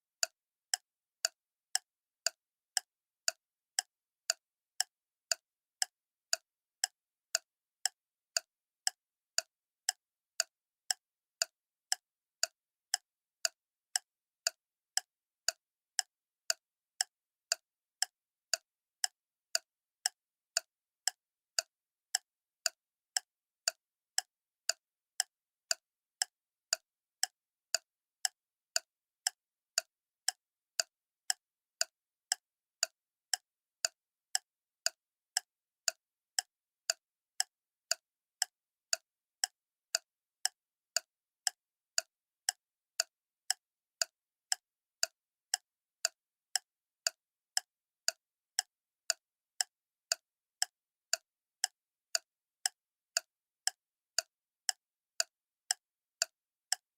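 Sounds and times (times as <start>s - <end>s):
clock ticking: 0.2s - 56.8s.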